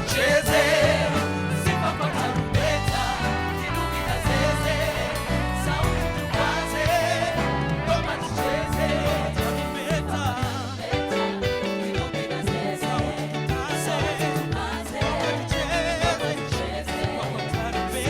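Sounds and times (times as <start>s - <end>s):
band with bass and drums: 0.0s - 18.0s
voices singing gospel: 0.0s - 18.0s.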